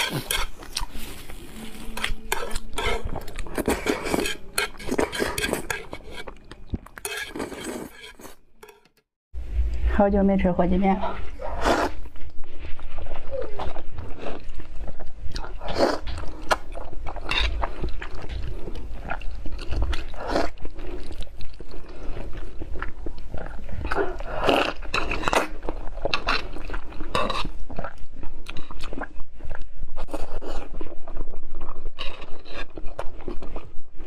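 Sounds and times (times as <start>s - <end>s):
slurping and chewing noodles: 0.0s - 8.9s, 11.2s - 34.0s.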